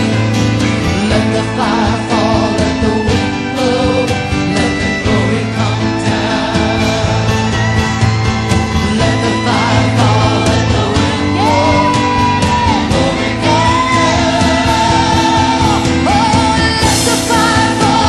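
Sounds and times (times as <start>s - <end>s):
drums: 0.0s - 18.0s
worship band music: 0.0s - 18.0s.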